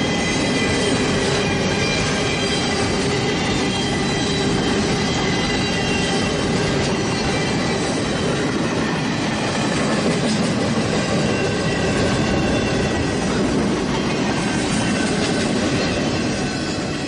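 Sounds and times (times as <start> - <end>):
high-speed train rumbling on rails: 0.0 - 17.0.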